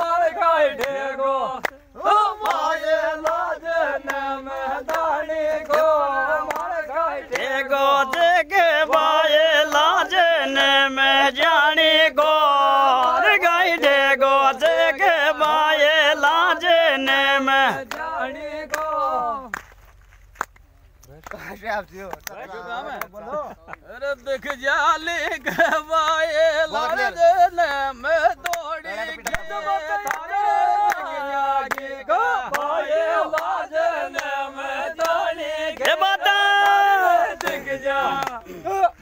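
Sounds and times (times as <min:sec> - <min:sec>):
unaccompanied folk singing: 0:00.0 - 0:20.7, 0:21.4 - 0:39.0.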